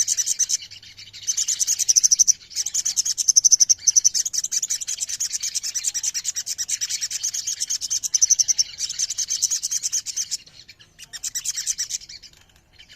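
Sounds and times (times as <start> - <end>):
chorus of birds chirping: 0.0 - 12.9.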